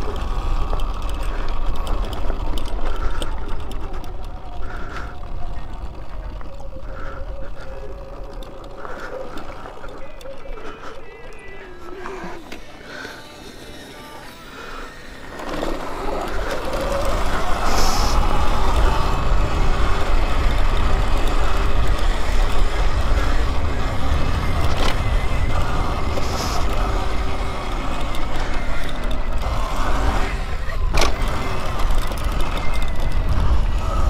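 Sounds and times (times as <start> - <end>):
faint electric motor whine: 0.0 - 34.0.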